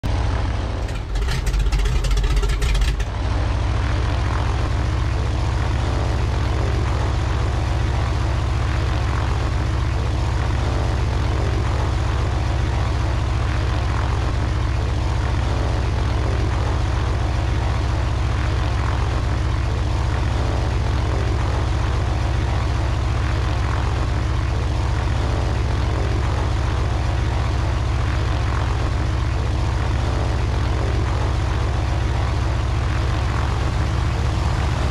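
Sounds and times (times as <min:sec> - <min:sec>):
engine droning: 0:00.0 - 0:34.9.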